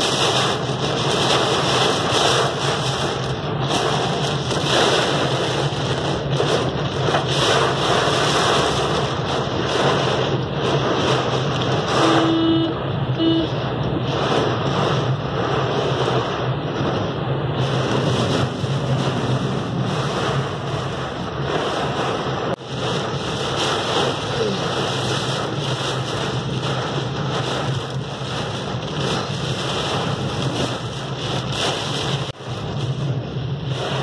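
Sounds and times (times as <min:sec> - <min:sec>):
heavy rain on car roof: 0:00.0 - 0:34.0
road noise: 0:00.0 - 0:34.0
wind: 0:00.0 - 0:34.0.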